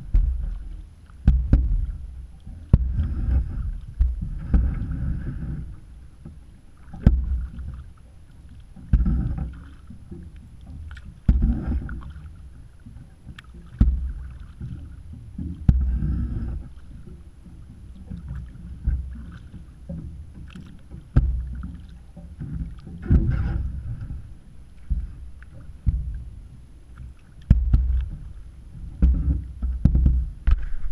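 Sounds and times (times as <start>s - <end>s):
paddle splashing water: 0.0s - 30.9s.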